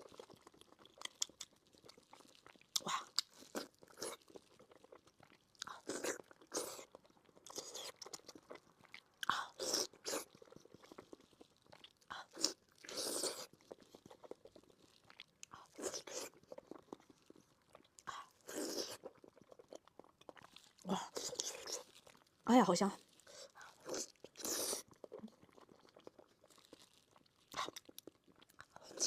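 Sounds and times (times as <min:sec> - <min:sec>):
close chewing mouth sounds: 0:00.0 - 0:29.0.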